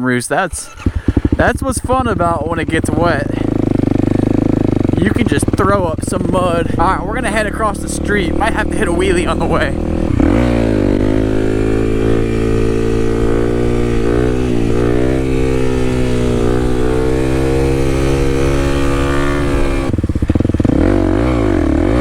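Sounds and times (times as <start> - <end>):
motorcycle engine running: 0.6 - 22.0.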